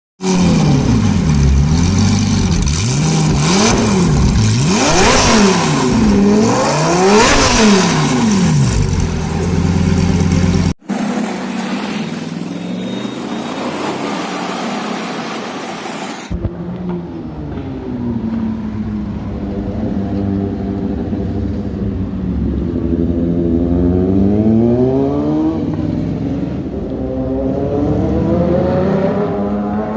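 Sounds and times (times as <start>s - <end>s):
car engine revving: 0.2s - 15.7s, 16.3s - 29.9s.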